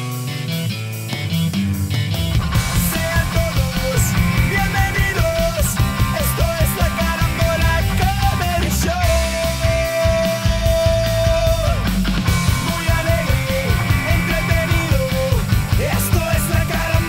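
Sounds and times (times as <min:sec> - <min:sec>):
upbeat rock music: 0:00.0 - 0:17.0.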